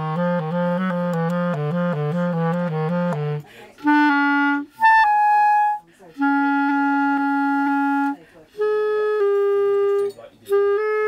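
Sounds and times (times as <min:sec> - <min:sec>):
clarinet notes: 0:00.0 - 0:11.0.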